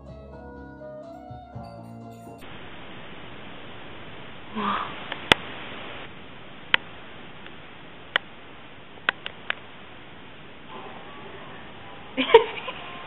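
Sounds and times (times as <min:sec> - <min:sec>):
camera microphone hiss: 0:02.4 - 0:13.0.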